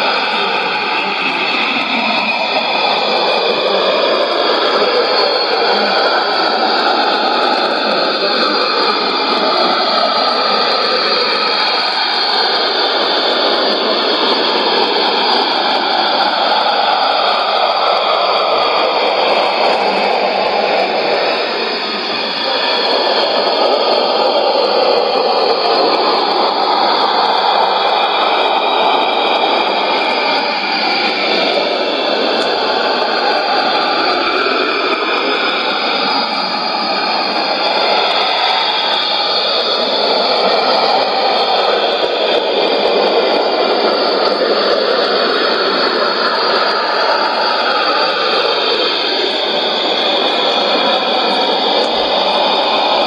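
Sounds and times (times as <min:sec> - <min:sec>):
dense radio noise signal: 0:00.0 - 0:53.0
faint steady whistles: 0:00.0 - 0:53.0.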